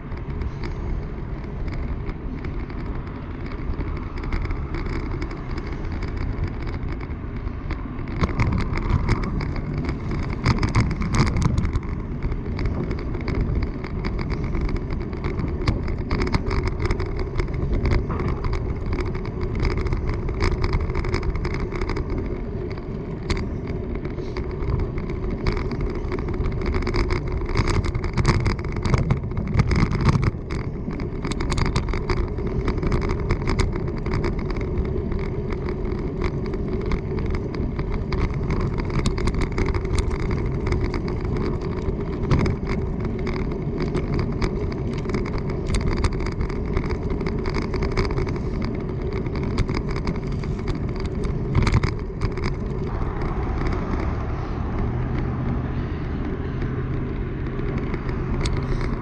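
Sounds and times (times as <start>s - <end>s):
bicycle rolling fast: 0.0s - 59.0s
small rattles and clicks: 0.0s - 59.0s.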